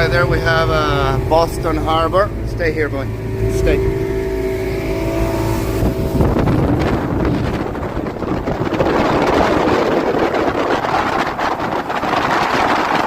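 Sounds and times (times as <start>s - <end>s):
motorboat engine hum: 0.0s - 13.0s
rushing wind and water: 0.0s - 13.0s
wind buffeting microphone: 0.0s - 13.0s.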